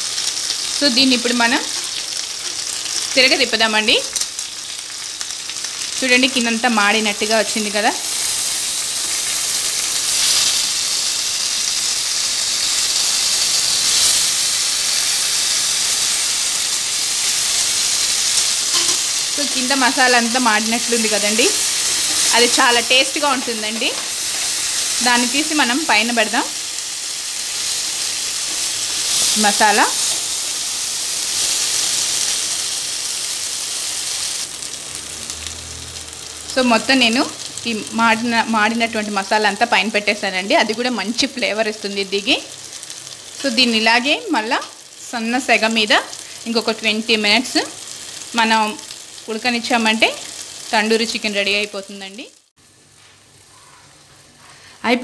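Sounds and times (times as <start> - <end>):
chicken sizzling in oil: 0.0 - 52.8.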